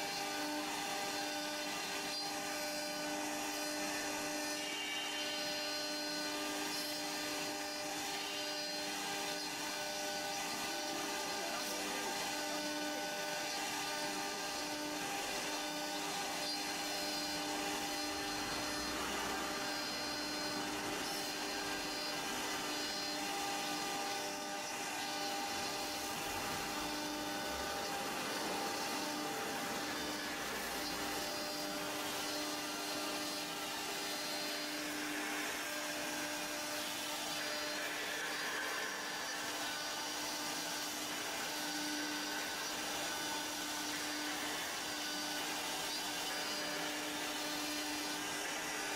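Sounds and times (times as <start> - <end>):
router spindle whining: 0.0 - 48.9.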